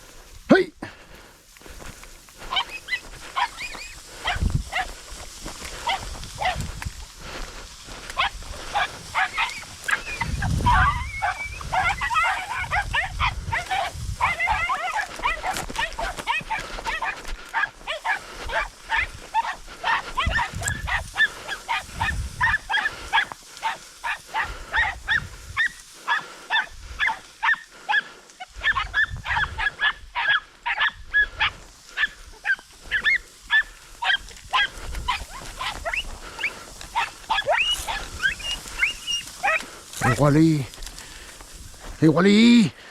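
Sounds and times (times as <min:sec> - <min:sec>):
hounds yelping: 0:01.8 - 0:42.0.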